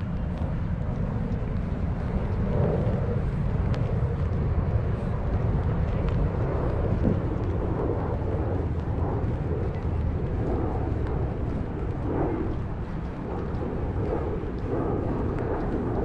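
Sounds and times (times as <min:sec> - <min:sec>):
distant city traffic hum: 0:00.0 - 0:16.0
wind rumble on microphone: 0:00.0 - 0:16.0.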